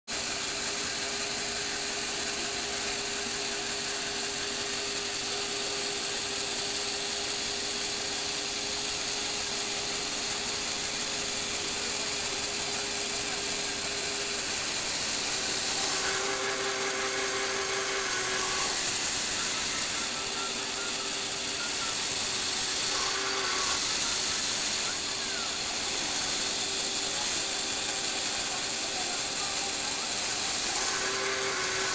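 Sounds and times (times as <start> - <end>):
motor-driven gears whirring: 0.1 - 31.9.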